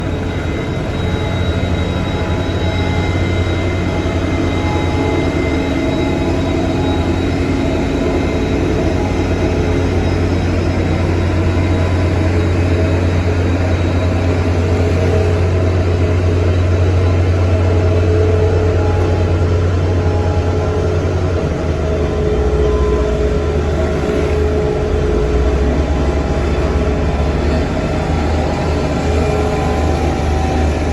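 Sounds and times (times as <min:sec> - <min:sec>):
construction machinery diesel engine: 0:00.0 - 0:30.9
steady tones: 0:00.0 - 0:30.9.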